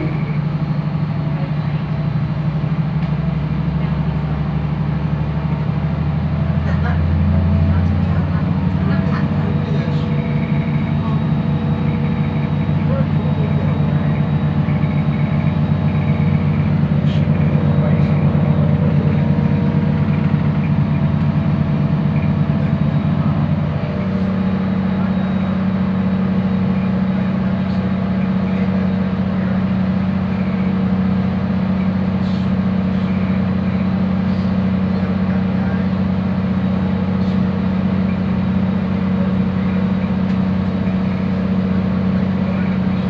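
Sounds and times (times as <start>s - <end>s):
train engine drone: 0.0s - 43.0s.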